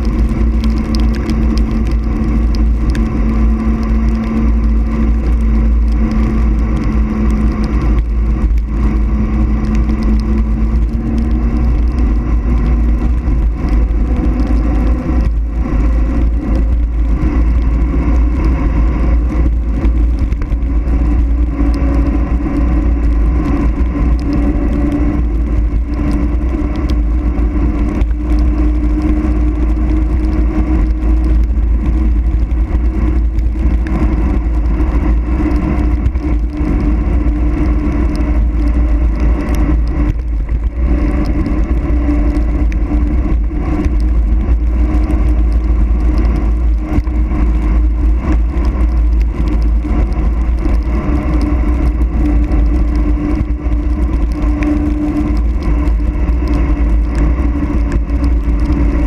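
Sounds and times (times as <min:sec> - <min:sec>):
tyres humming on road: 0:00.0 - 0:59.0
wind buffeting microphone: 0:00.0 - 0:59.0.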